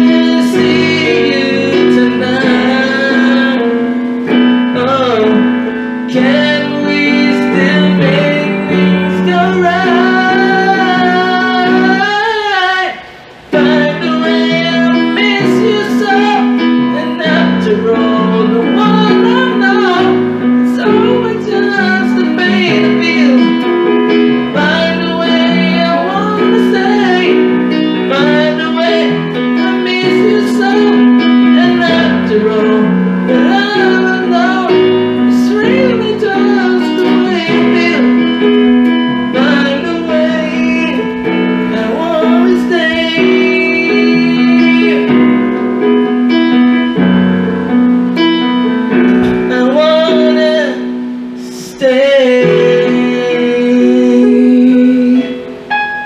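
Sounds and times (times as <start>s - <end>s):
electronic keyboard chords: 0.0s - 56.0s
man singing with vibrato: 0.0s - 56.0s.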